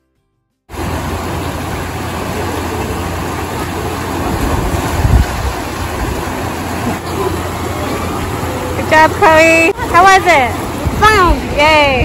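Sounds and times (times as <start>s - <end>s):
water gushing into pool: 0.7s - 11.9s.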